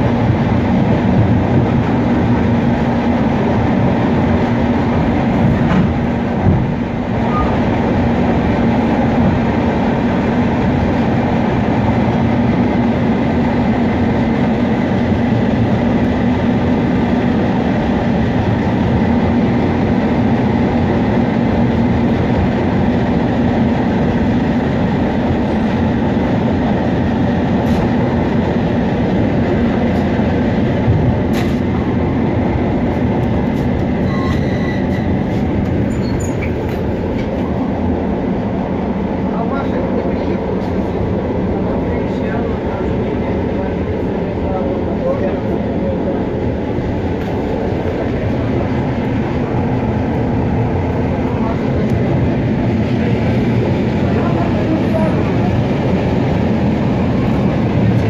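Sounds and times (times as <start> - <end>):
electric train running: 0.0 - 58.0
passing train alongside: 0.0 - 58.0.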